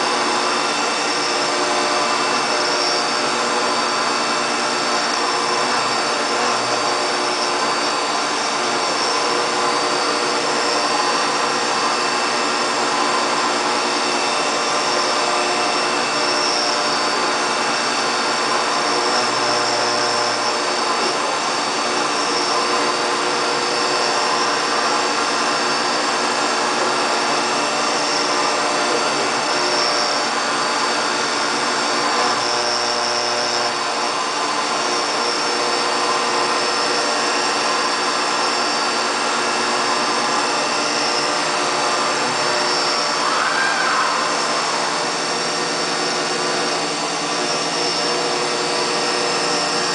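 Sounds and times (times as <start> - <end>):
metal cutting noise: 0.0 - 49.9
milling machine spindle whine: 0.0 - 49.9.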